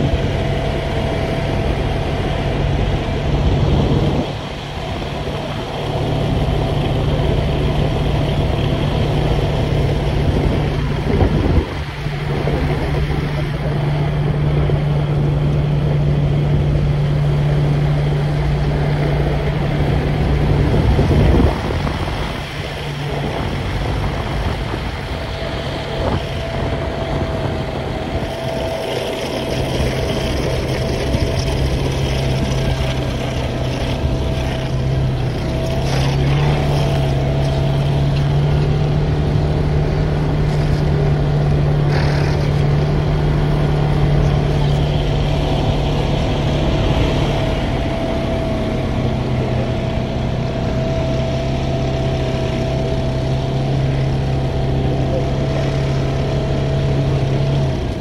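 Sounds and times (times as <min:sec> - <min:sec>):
vehicle engine running: 0:00.0 - 0:58.0
wind noise: 0:00.0 - 0:58.0.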